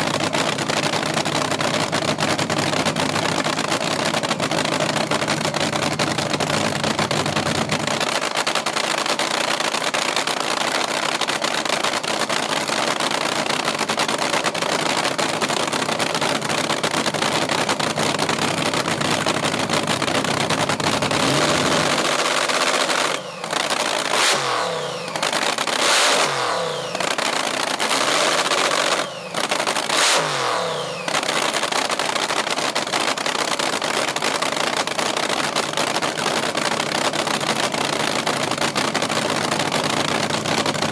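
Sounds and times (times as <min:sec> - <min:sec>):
drag car engine revving: 0:00.0 - 0:40.9.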